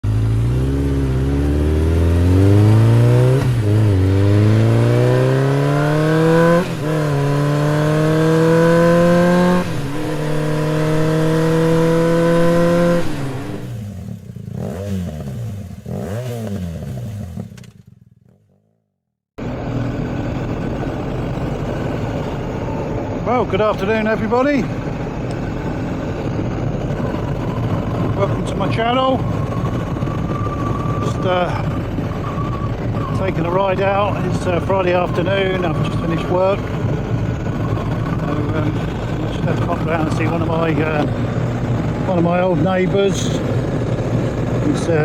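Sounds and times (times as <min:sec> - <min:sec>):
road noise: 0:00.0 - 0:18.6, 0:19.4 - 0:45.0
motorcycle engine accelerating: 0:00.0 - 0:18.8, 0:19.4 - 0:45.0.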